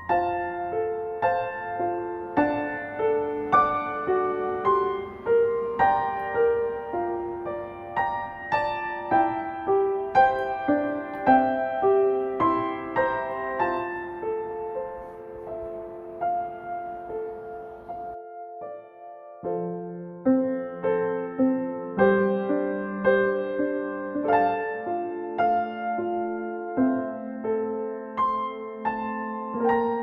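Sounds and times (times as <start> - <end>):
gentle solo piano music: 0.0 - 30.0.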